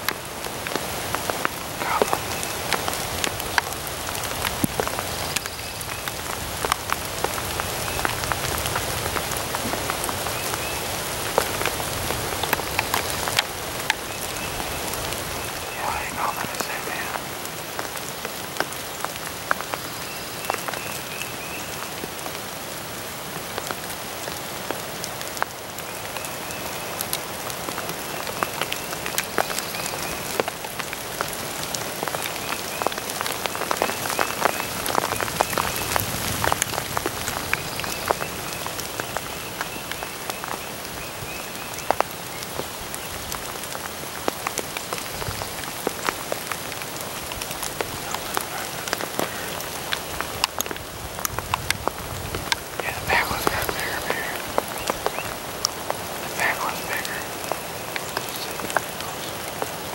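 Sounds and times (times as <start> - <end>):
raindrop ticks: 0.0 - 59.9
steady rain falling: 0.0 - 59.9.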